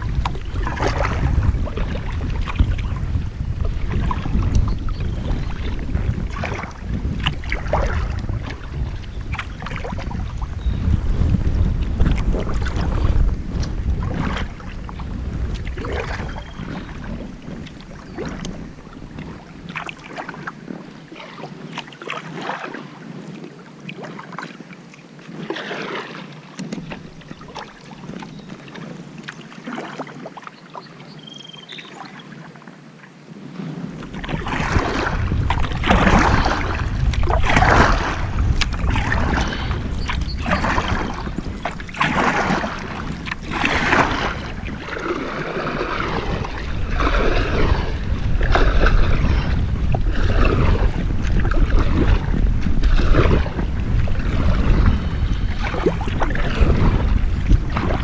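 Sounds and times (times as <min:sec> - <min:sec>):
paddle strokes splashing water: 0:00.0 - 0:58.0.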